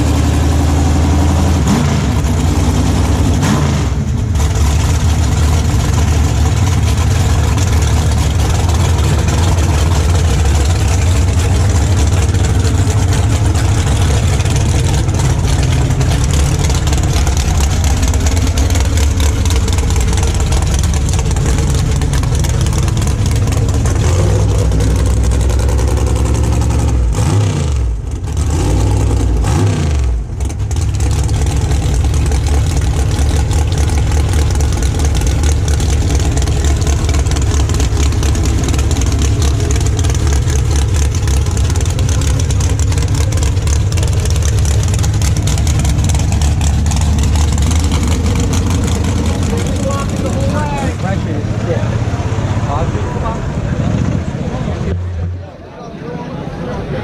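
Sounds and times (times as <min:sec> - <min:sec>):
race car engines rumbling: 0:00.0 - 0:57.0.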